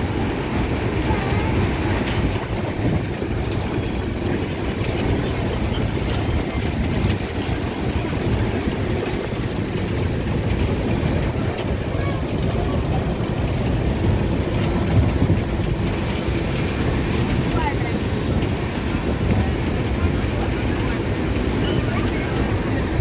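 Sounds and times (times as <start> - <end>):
moving train rumbling: 0.0 - 23.0.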